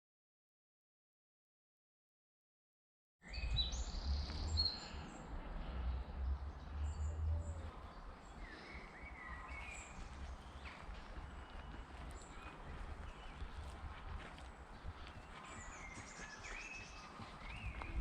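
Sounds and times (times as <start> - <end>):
birds chirping: 3.2 - 18.0.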